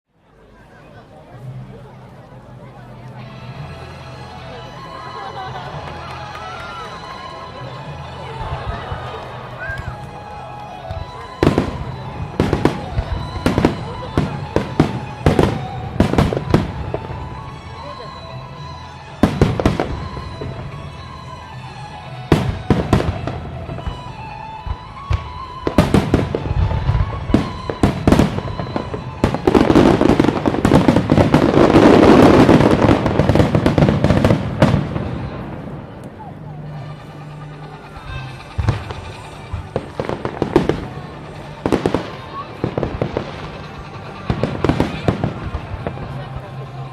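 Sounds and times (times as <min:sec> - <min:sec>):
fireworks bursting with sharp bangs: 0:08.3 - 0:37.2, 0:37.9 - 0:46.9.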